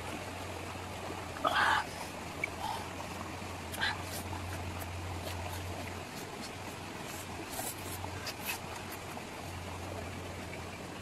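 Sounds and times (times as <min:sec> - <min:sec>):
flowing stream: 0:00.0 - 0:11.0.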